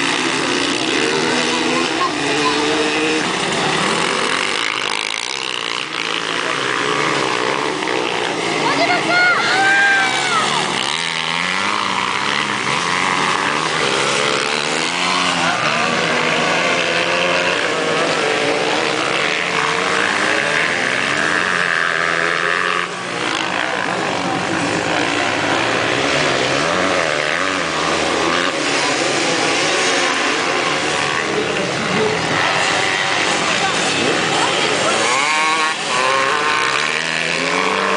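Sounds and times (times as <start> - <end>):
motocross bikes revving: 0.0 - 37.9.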